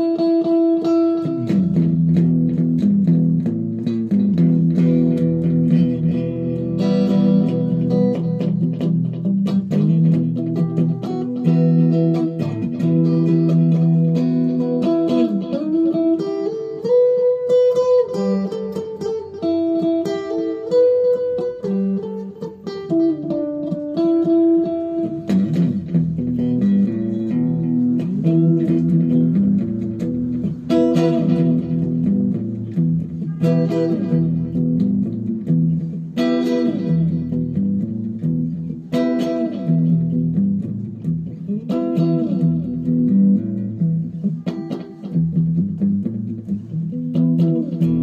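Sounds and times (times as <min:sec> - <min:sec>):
guitar music over bass line: 0:00.0 - 0:48.0.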